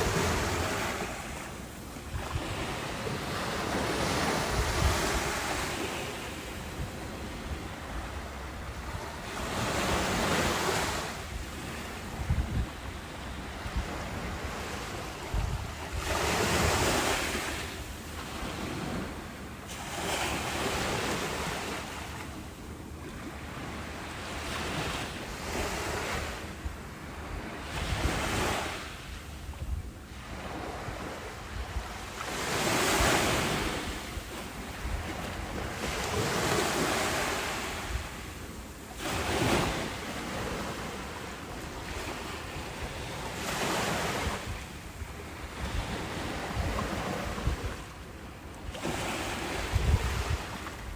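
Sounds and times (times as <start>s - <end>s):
wind on microphone: 0.0s - 19.2s, 24.4s - 50.9s
ocean waves breaking: 0.0s - 22.3s, 30.1s - 50.9s.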